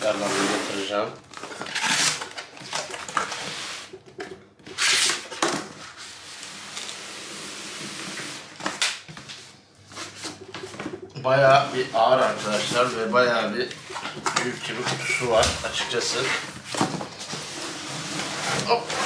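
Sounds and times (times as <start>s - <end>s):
cardboard rustling and scraping: 0.0s - 19.0s.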